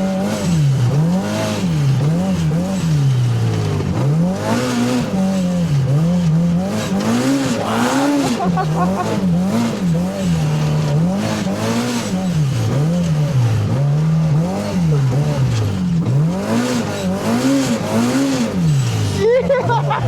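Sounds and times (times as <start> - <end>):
engine revving up and down: 0.0 - 20.0.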